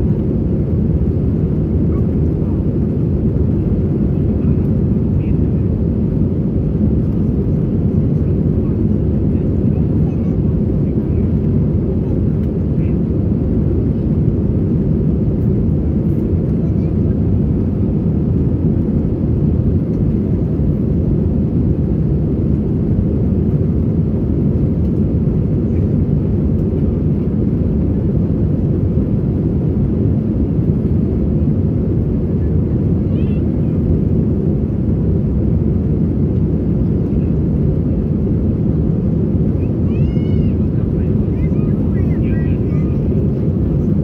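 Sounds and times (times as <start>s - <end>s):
airplane cabin engine noise: 0.0s - 44.0s.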